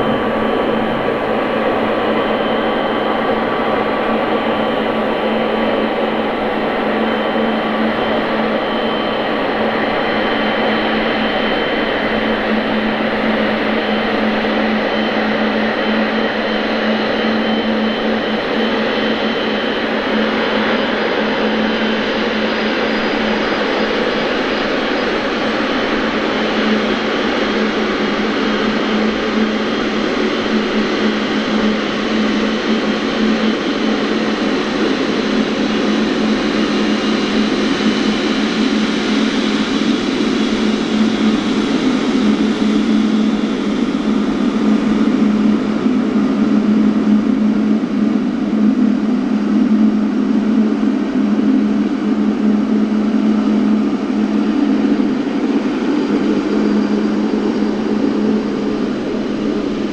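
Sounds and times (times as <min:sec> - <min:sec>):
aircraft jet engines running: 0:00.0 - 0:59.9.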